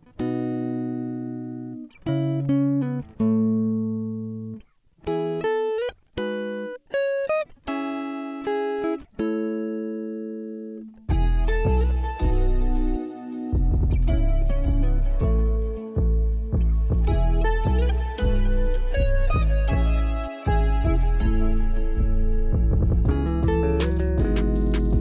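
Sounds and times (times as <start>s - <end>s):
plucked guitar melody: 0.0s - 25.0s.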